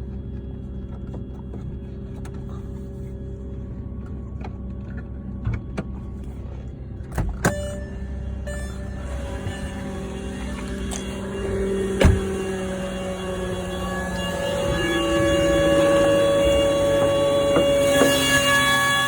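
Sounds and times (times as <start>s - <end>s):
car engine whining over rumble: 0.0s - 19.0s.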